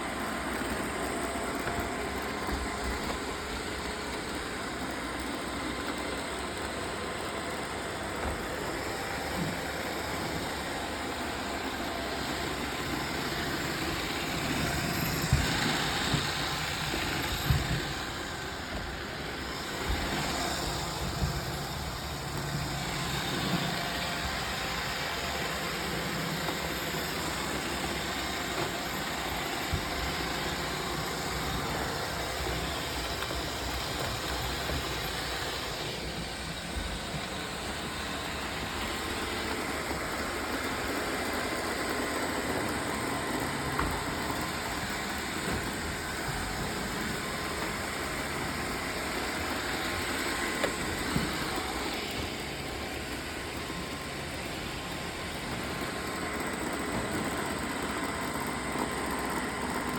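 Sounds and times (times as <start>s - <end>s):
robot vacuums whirring: 0.0s - 59.9s.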